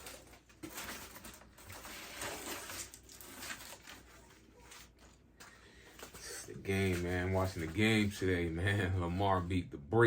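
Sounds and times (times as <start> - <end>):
cardboard rustling and scraping: 0.0 - 9.2.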